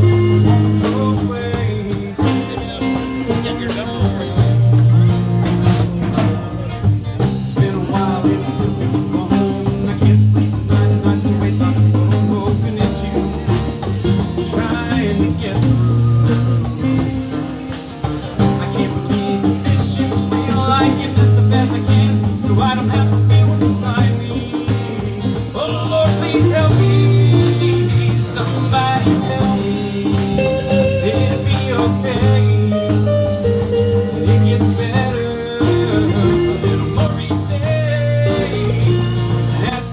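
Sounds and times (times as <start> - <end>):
bass line: 0.0 - 39.9
blues band playing: 0.0 - 39.9
drum kit beat: 0.0 - 39.9
electric guitar: 0.0 - 39.9.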